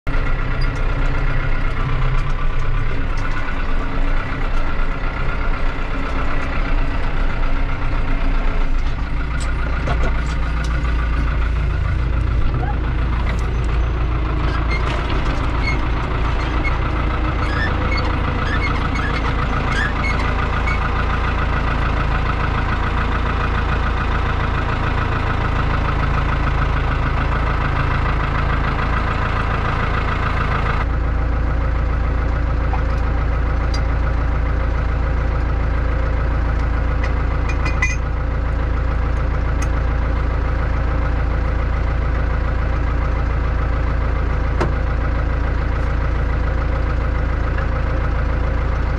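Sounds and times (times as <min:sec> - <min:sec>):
tractor diesel engine idling: 0:00.0 - 0:48.9.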